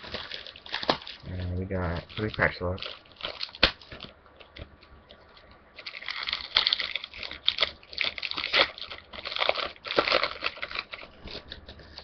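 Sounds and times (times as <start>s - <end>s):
foil wrapper crinkling and tearing: 0.0s - 4.6s, 5.3s - 12.0s.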